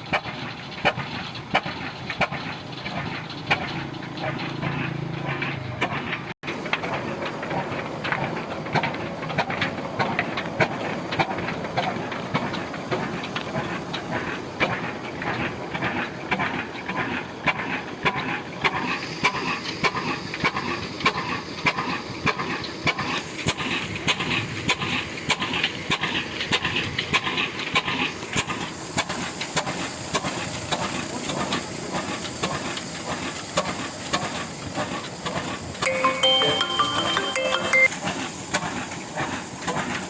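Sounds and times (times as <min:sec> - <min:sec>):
diesel engine running slowly: 0:00.0 - 0:40.0.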